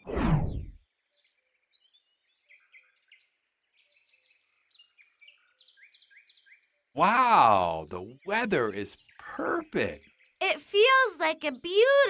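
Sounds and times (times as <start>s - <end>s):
faint bird chirps and twitters: 0.0s - 12.0s.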